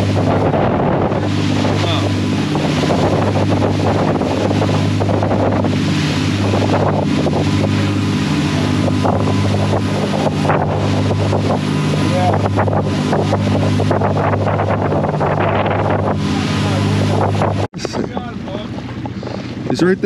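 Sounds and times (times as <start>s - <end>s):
boat engines droning: 0.0s - 20.0s
wind buffeting microphone: 0.0s - 20.0s.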